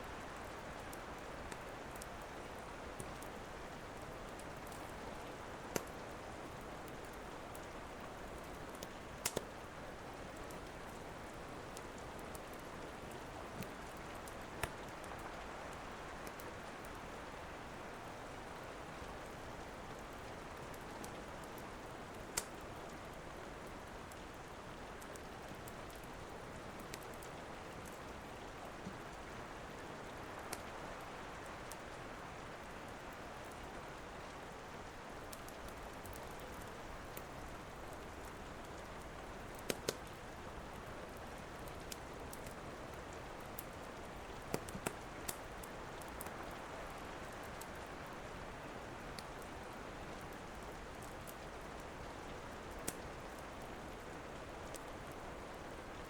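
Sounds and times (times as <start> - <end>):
rain falling: 0.0 - 56.0
wood fire crackling and popping: 0.9 - 15.4, 16.0 - 17.0, 19.1 - 24.2, 24.9 - 29.2, 30.0 - 32.0, 35.0 - 47.9, 48.8 - 55.6.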